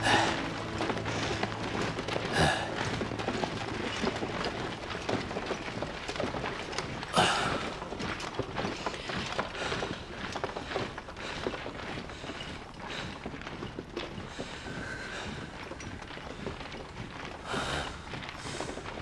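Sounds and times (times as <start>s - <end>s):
footsteps: 0.0s - 19.0s
gear rattling: 0.0s - 19.0s
hooves clopping: 0.0s - 19.0s.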